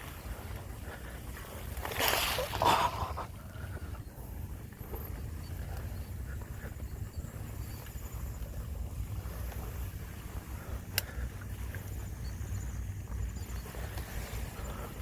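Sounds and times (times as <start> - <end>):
bike rattling over rough ground: 0.0 - 15.0.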